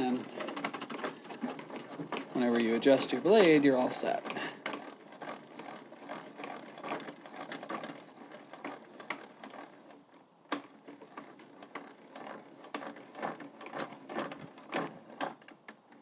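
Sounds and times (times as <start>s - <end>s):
table saw parts clicking and rattling: 0.0s - 16.0s.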